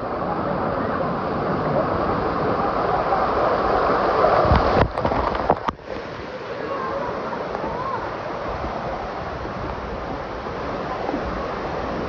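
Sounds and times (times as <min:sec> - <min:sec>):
wind noise on microphone: 0:00.0 - 0:06.4, 0:07.5 - 0:12.0
water surging and rushing: 0:00.0 - 0:12.0.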